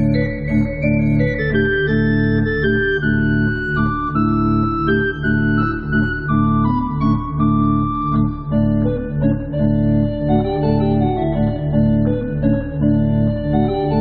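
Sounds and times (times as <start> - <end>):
church organ playing chords: 0.0 - 14.0.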